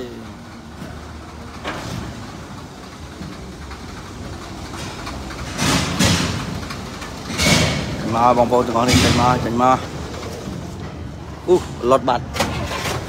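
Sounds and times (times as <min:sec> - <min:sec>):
forklift engine running: 0:00.0 - 0:13.0.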